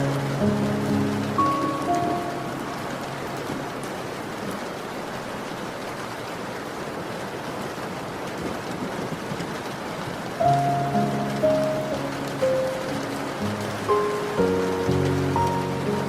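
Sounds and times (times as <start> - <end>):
raindrop ticks: 0.0 - 16.0
steady rain: 0.0 - 16.0.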